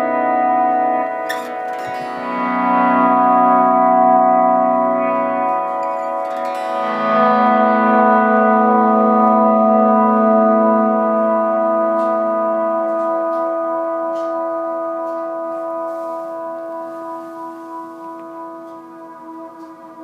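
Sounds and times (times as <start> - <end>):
clean electric guitar chord with reverb: 0.0 - 16.1.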